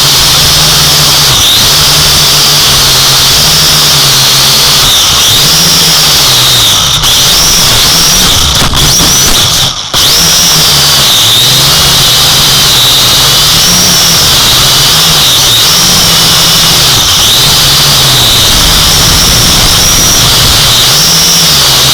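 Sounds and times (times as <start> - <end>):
drone propellers whining: 0.0 - 21.9.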